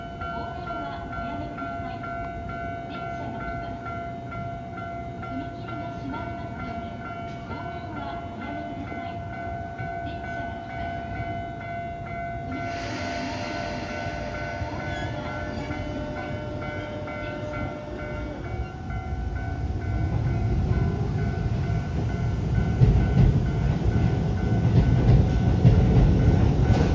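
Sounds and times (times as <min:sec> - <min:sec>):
level crossing bell ringing: 0:00.0 - 0:22.4
electric train passing: 0:00.0 - 0:26.9.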